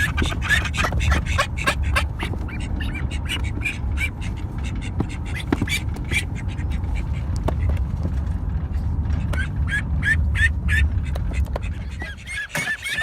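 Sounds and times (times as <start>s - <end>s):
duck calls: 0.0s - 7.8s, 9.2s - 13.0s
ducklings peeping: 0.0s - 8.0s, 9.1s - 13.0s
steady low rumble: 0.0s - 13.0s.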